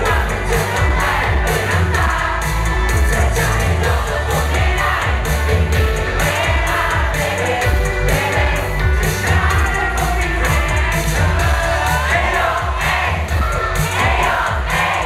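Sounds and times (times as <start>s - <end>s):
backing track with heavy beat: 0.0s - 15.0s
male group singing: 0.0s - 15.0s.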